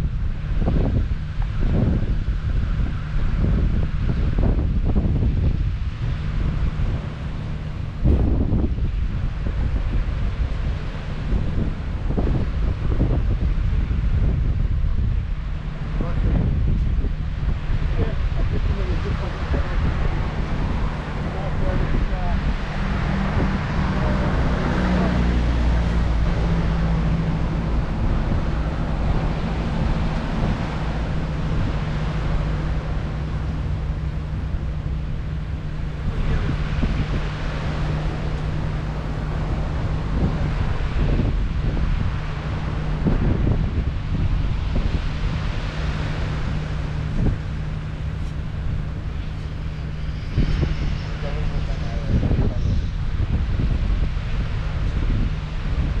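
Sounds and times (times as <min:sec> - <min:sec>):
ship engine rumble: 0:00.0 - 0:56.0
water washing: 0:00.0 - 0:56.0
wind on microphone: 0:00.0 - 0:56.0.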